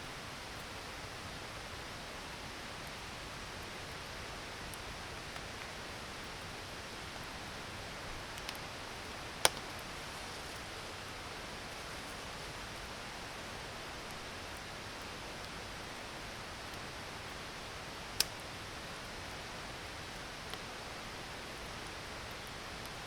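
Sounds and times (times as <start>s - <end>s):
faint fire crackles: 0.0s - 23.0s.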